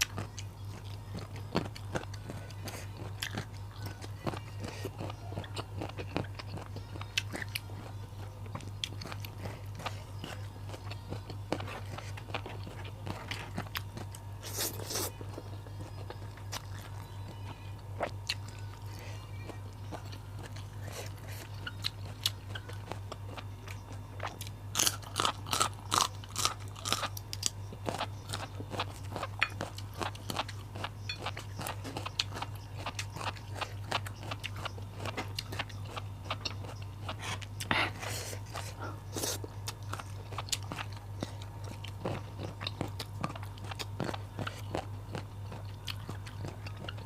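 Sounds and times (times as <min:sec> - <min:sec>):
chewing crunchy raw vegetables: 0:00.0 - 0:47.0
low steady hum: 0:00.0 - 0:47.0.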